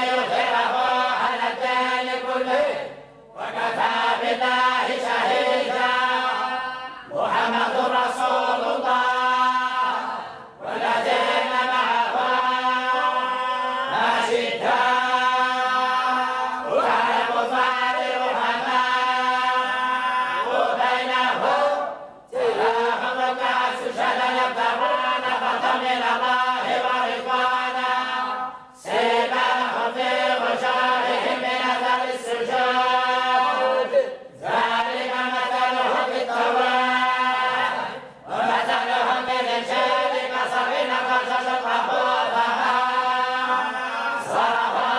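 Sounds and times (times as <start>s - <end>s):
group reciting in unison: 0.0s - 44.9s.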